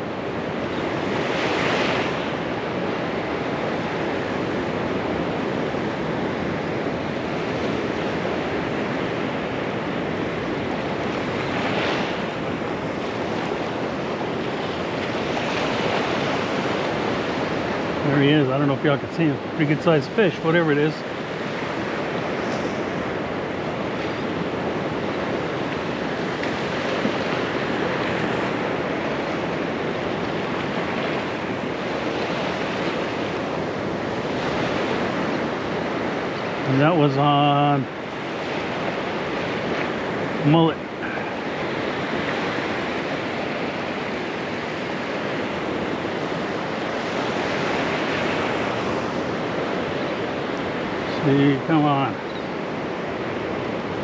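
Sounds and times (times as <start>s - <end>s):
surf washing onto beach: 0.0s - 54.0s
wind on microphone: 0.0s - 54.0s.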